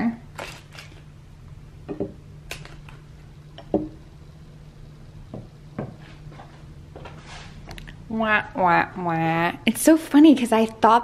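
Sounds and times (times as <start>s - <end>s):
low hum: 0.2s - 10.2s.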